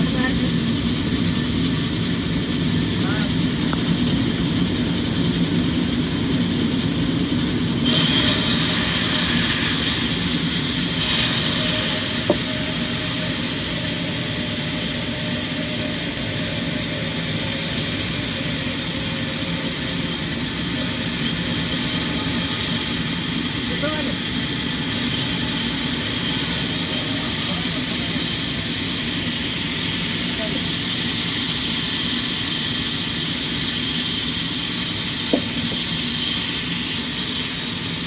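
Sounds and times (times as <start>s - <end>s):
sawmill machinery running: 0.0s - 38.0s.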